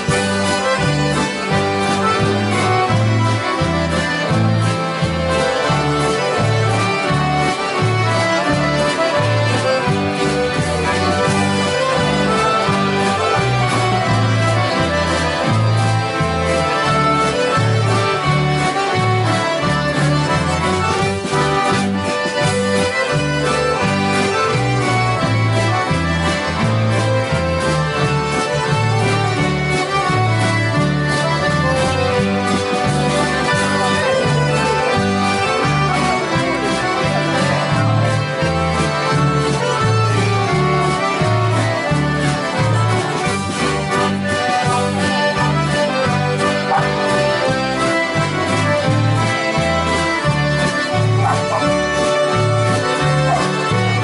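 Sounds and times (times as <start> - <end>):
accordions playing dance tune: 0.0 - 54.0
bass guitar line: 0.0 - 54.0
guitars: 0.0 - 54.0.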